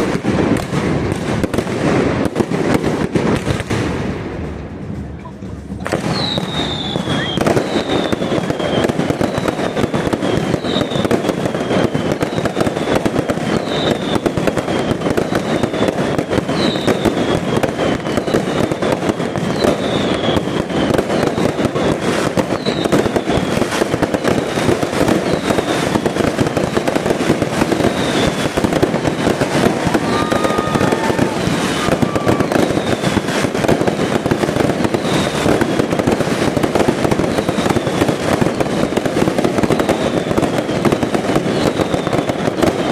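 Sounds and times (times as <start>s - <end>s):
fireworks crackling and fizzing: 0.0s - 42.9s
high falling firework whistle: 5.7s - 42.9s.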